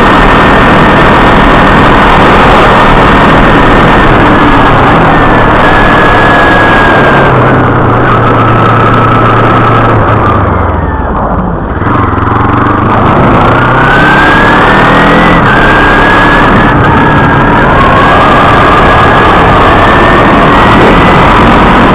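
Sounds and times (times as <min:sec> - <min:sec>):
motorcycle engine: 0:00.0 - 0:21.9
wind noise on microphone: 0:00.0 - 0:21.9.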